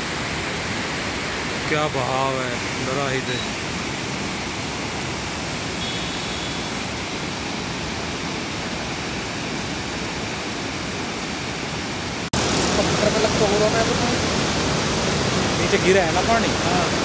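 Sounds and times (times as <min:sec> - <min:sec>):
river rushing through rapids: 0:00.0 - 0:17.0.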